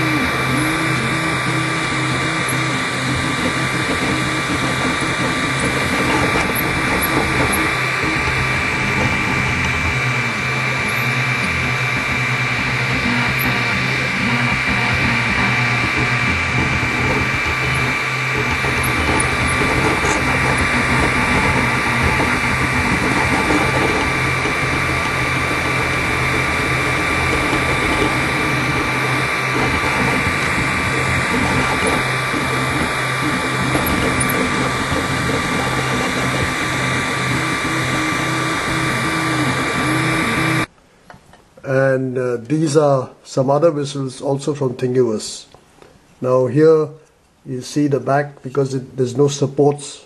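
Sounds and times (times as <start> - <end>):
steady high-pitched whine: 0.0 - 40.7
stepper motors whirring: 0.0 - 40.7.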